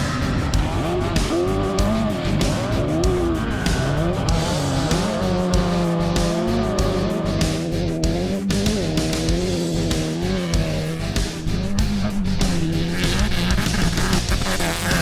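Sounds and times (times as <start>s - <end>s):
car engines revving: 0.0s - 15.0s
music with steady drum beat: 0.0s - 15.0s.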